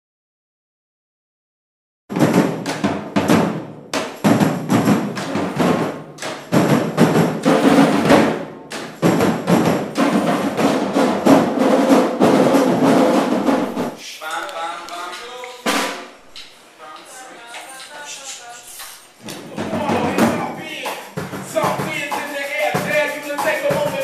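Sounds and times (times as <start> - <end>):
drum circle playing: 2.1 - 24.0.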